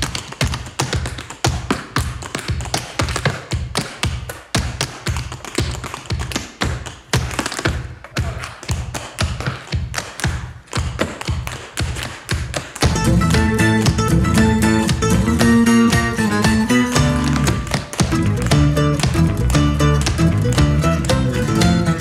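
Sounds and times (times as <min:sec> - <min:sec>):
tap dancing on concrete: 0:00.0 - 0:22.0.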